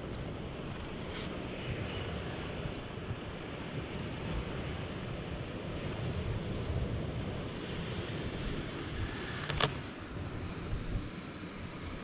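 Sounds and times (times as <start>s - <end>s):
wind: 0.0s - 12.0s
wind rumble on microphone: 0.0s - 12.0s.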